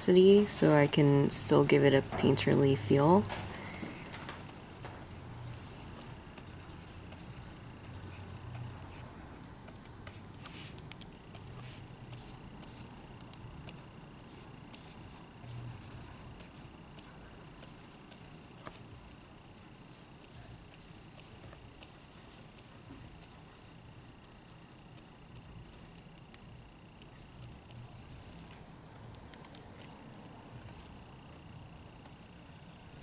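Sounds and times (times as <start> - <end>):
faint steady hum: 0.0 - 33.0
stylus scratching and tapping on screen: 0.1 - 33.0.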